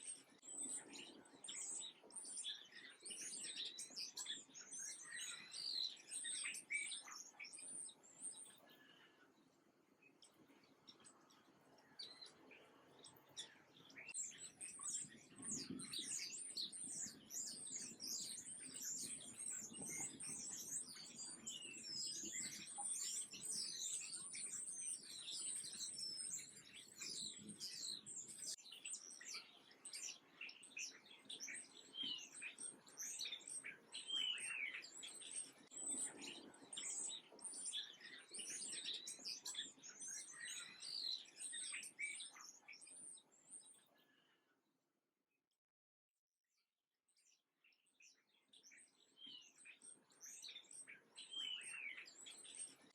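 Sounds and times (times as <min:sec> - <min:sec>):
small birds chirping: 0:00.0 - 0:44.6, 0:47.1 - 0:52.9.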